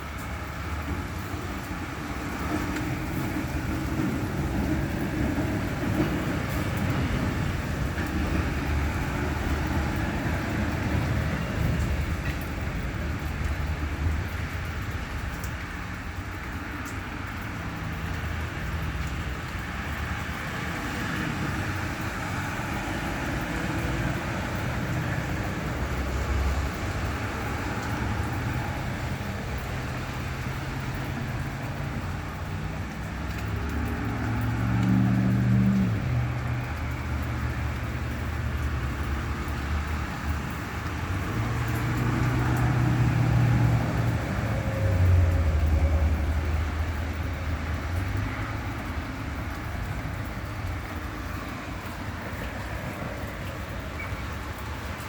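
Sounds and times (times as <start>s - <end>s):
tyres hissing on wet road: 0.0s - 55.0s
vehicle engines humming: 0.0s - 55.0s.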